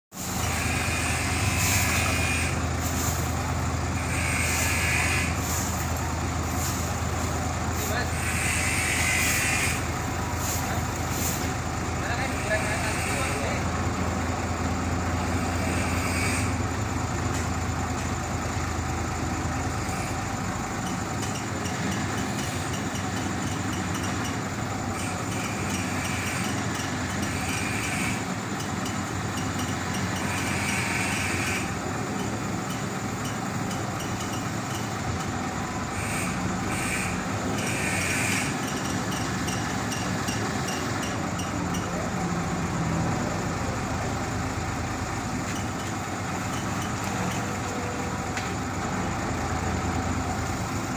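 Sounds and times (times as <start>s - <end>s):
diesel truck engine running: 0.1s - 50.9s.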